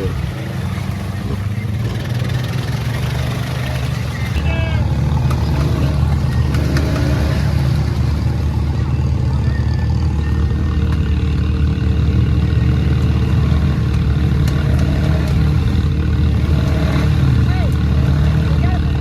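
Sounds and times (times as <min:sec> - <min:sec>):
vehicle engine at low revs: 0:00.0 - 0:19.0.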